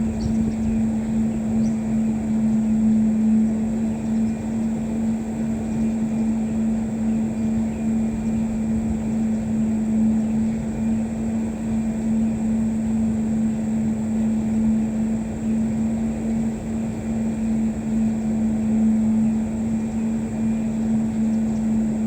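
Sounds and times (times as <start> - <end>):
motor drone: 0.0 - 22.0.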